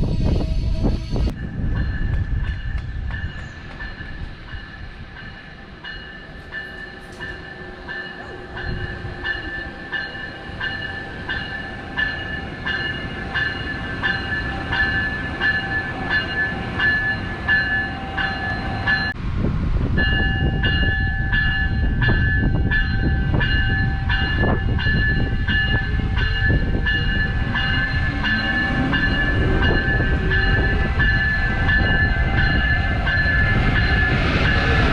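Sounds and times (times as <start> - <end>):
train rumble: 0.0 - 34.9.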